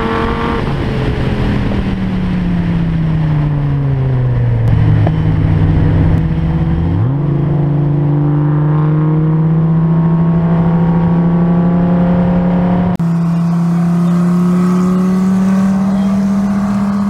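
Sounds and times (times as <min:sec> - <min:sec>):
engine at full throttle: 0:00.0 - 0:17.0.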